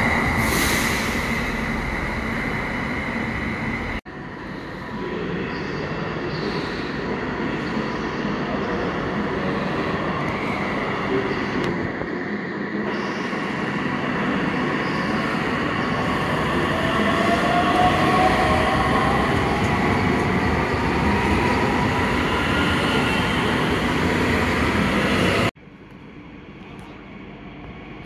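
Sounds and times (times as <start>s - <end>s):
electric train rolling past: 0.0s - 25.5s.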